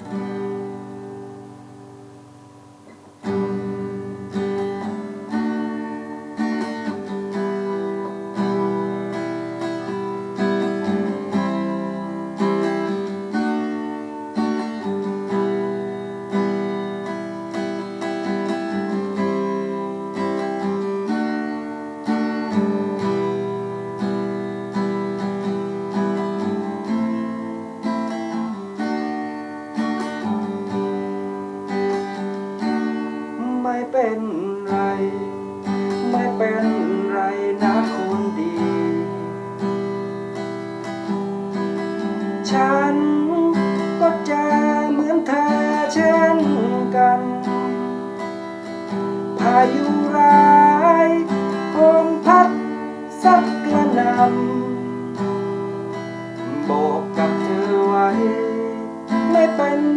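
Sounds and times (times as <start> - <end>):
guitar chord ringing: 0.0 - 59.9
picked guitar pattern: 0.0 - 59.9.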